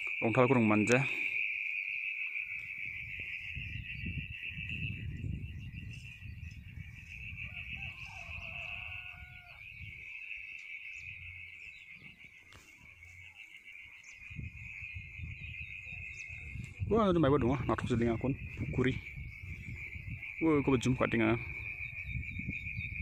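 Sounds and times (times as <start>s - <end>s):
insect chorus trilling: 0.0s - 23.0s
wind buffeting microphone: 2.5s - 23.0s.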